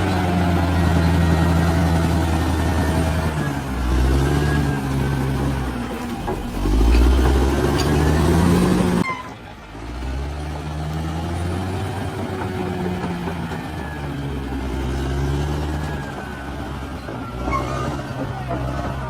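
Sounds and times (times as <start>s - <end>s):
bulldozer diesel engine drone: 0.0s - 19.0s.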